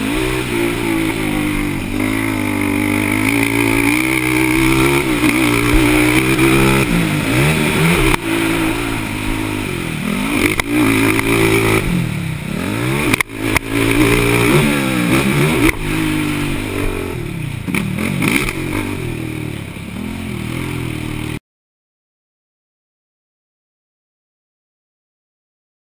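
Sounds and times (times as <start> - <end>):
quad engines revving: 0.0 - 21.4.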